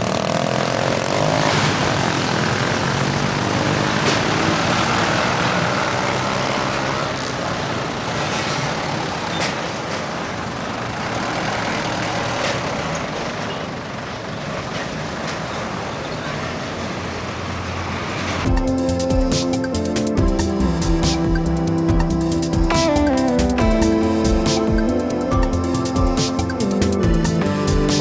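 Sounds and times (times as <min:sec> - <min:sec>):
motorcycles and trucks accelerating: 0:00.0 - 0:28.0.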